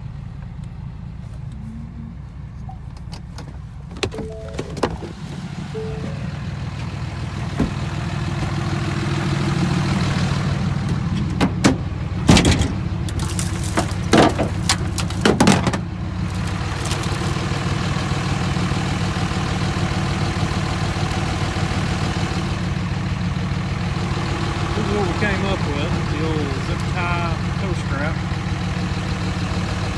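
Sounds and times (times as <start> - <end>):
diesel truck engine idling: 0.0 - 29.9.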